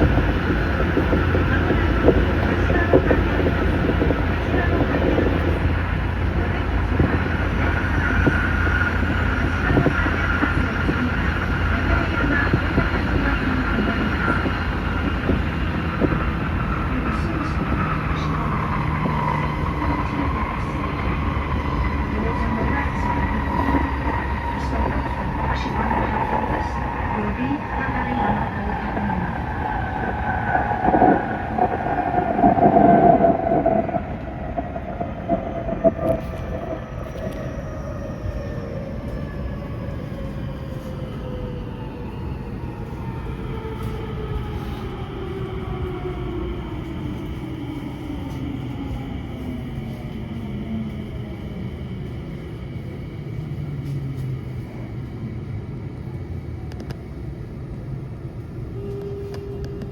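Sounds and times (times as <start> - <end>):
electric train rumbling: 0.0 - 59.9
faint train whine: 0.0 - 59.9.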